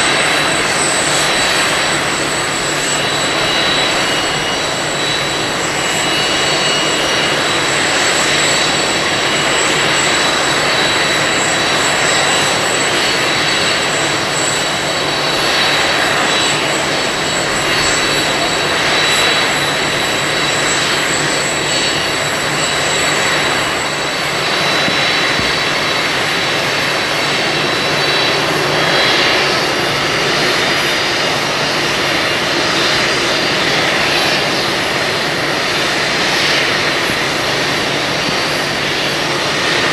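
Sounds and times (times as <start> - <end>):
high even engine whine: 0.0 - 39.9
jet engines running: 0.0 - 39.9.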